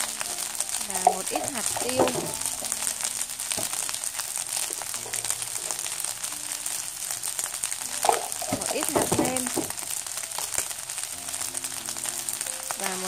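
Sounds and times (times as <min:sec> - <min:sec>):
rice sizzling in a frying pan: 0:00.0 - 0:13.0.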